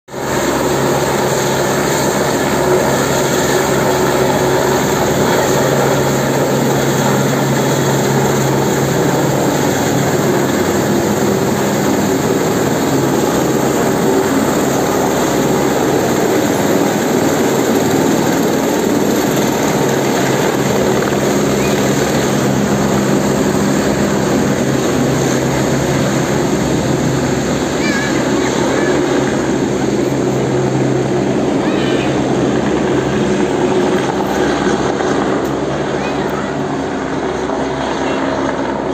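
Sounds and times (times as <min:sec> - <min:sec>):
helicopter rotor and turbine: 0:00.1 - 0:38.9.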